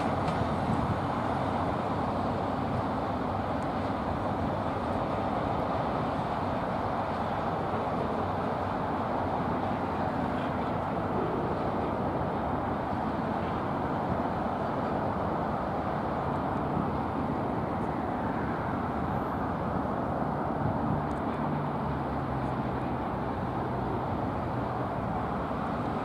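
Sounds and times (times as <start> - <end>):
diesel locomotive running: 0.0 - 26.0
train noise: 0.0 - 26.0.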